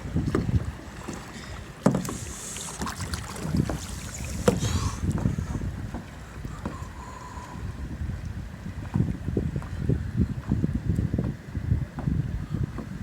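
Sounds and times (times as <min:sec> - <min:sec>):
paddle splashes: 0:00.0 - 0:10.6
wind rumbling on microphone: 0:00.0 - 0:13.0.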